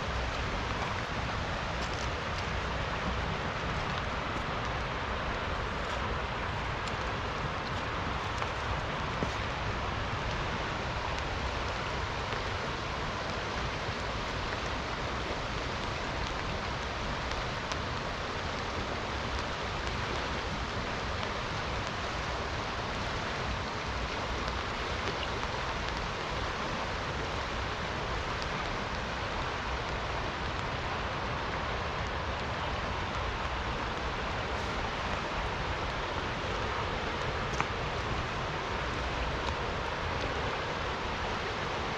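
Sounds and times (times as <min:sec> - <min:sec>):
raindrops ticking: 0:00.0 - 0:41.9
steady rain: 0:00.0 - 0:41.9.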